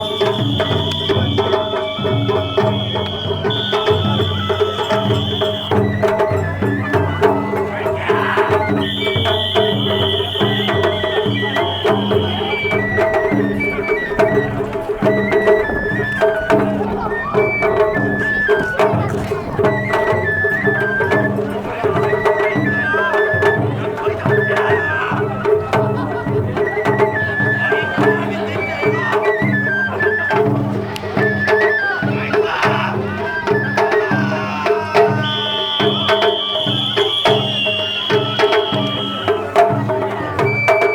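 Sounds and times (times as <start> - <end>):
drums beating steady rhythm: 0.0 - 40.9
high flute melody: 0.0 - 40.9.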